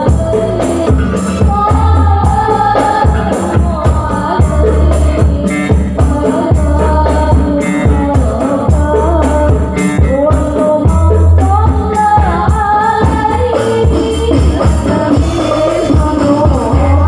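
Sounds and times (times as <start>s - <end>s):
bass and keyboard notes: 0.0s - 17.0s
frame drums and hand drum: 0.0s - 17.0s
voices singing: 0.0s - 17.0s.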